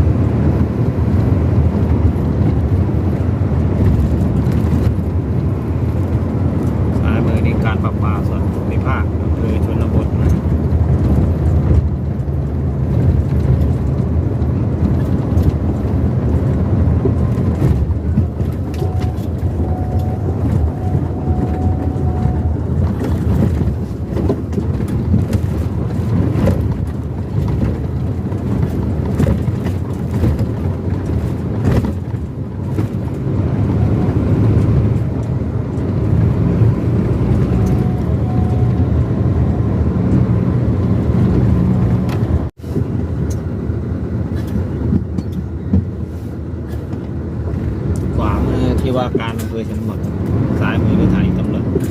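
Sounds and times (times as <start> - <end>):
tyres on road: 0.0 - 51.9
vehicle engine rumble: 0.0 - 51.9
wind noise: 0.0 - 51.9.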